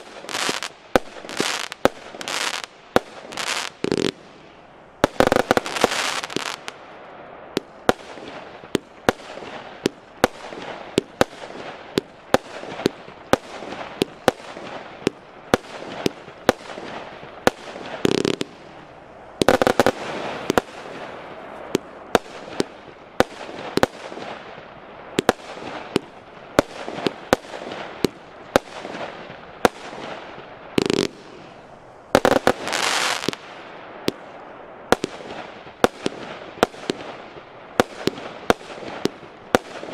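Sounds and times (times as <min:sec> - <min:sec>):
firework crackling bursts: 0:00.0 - 0:39.9
firework sharp reports: 0:00.0 - 0:39.9.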